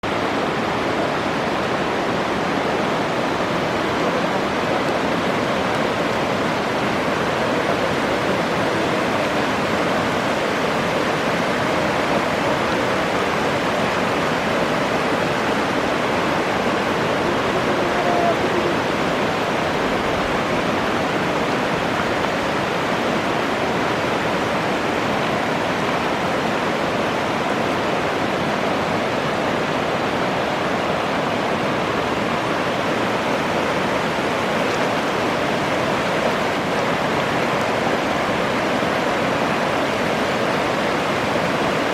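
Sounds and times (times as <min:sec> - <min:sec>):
mountain torrent rushing: 0:00.0 - 0:41.9.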